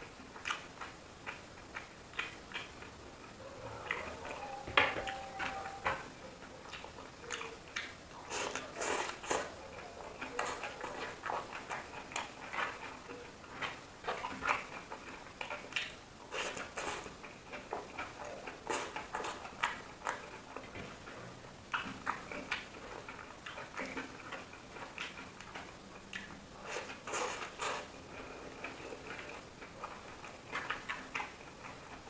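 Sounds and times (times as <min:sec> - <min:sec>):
chewing and lip-smacking: 0:00.0 - 0:32.0.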